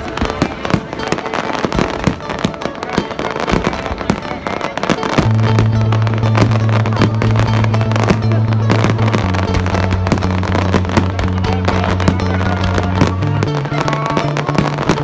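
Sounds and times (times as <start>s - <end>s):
fireworks bangs and crackles: 0.0s - 15.0s
steady musical tones: 0.0s - 15.0s.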